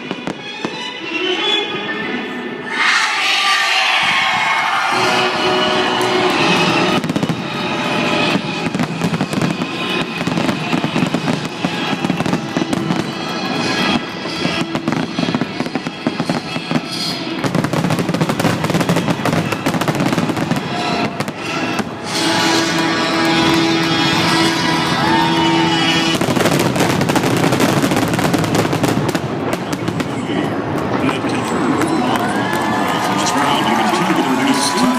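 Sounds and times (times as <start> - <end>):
music playing: 0.0 - 34.9
firework bursts and crackles: 4.8 - 34.9.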